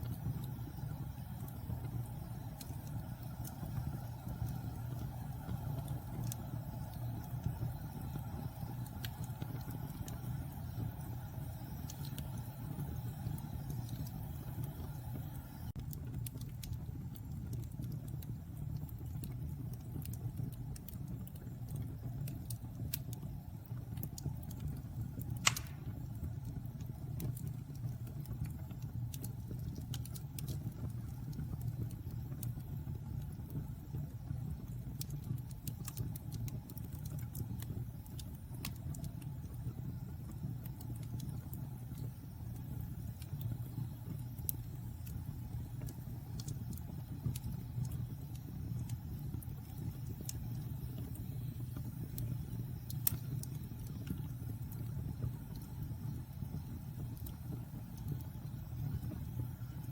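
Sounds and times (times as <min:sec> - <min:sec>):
fire crackling and popping: 0:00.0 - 0:59.9
fireplace flames rumbling: 0:00.0 - 0:59.9.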